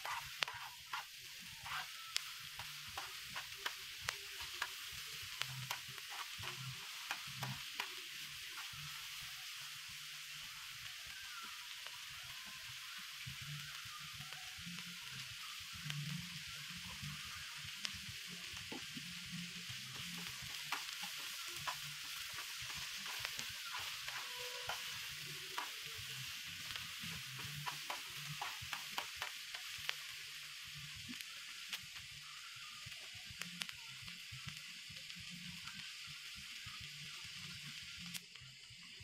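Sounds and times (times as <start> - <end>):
onions sizzling in oil: 0.0 - 39.0.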